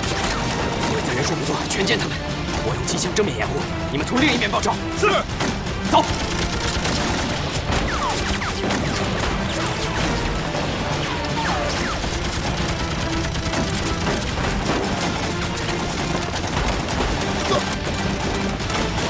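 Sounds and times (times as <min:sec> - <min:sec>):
heavy gunfire: 0:00.0 - 0:03.0, 0:03.8 - 0:19.0
background music: 0:00.0 - 0:19.0.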